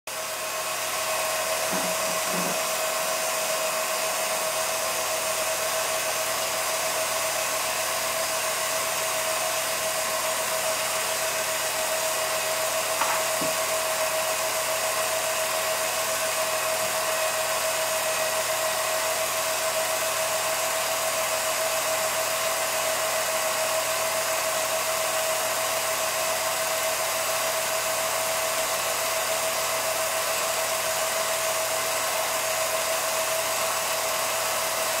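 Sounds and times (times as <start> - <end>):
film projector running: 0.1 - 35.0.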